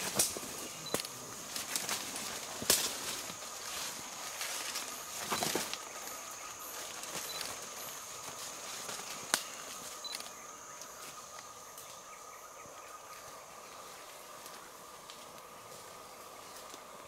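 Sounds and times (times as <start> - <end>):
high-pitched insect drone: 0.5 - 17.0.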